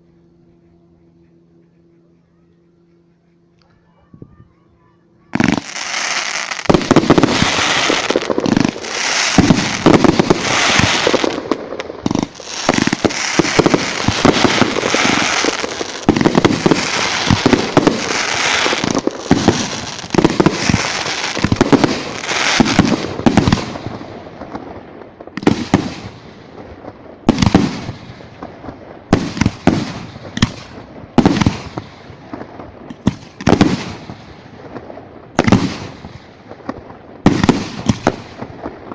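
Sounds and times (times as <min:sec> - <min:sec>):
fireworks crackling: 0:05.2 - 0:38.9
fireworks bangs: 0:05.3 - 0:38.9.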